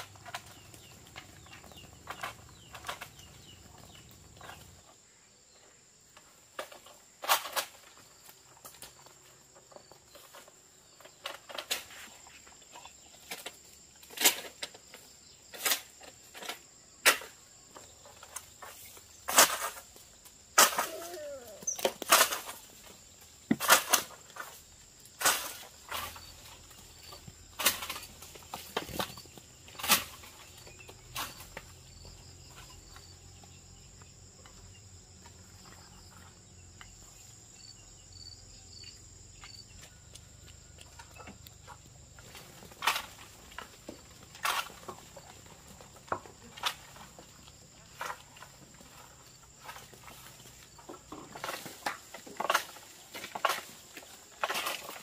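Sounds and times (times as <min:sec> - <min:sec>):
insect chirring: 0:00.0 - 0:55.0.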